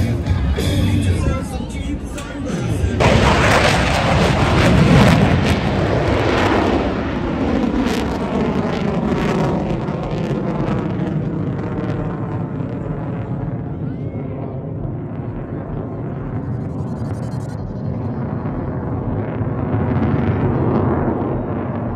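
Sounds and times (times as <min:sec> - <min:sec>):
aircraft passing low overhead: 0:00.0 - 0:21.9.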